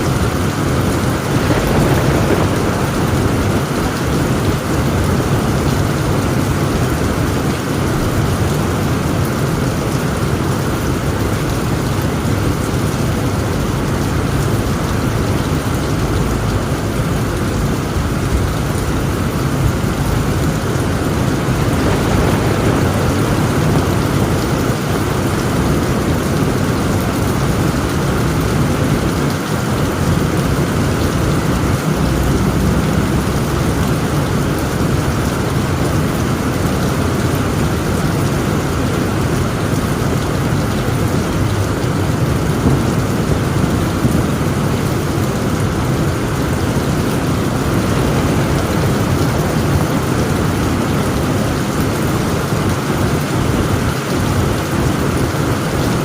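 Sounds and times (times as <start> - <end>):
rolling thunder: 0.0 - 51.6
heavy rain on a tent roof: 0.0 - 56.0.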